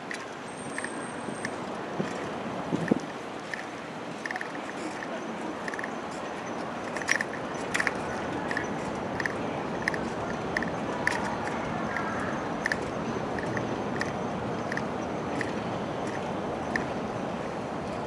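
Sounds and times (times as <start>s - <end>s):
steady background rush: 0.0s - 18.0s.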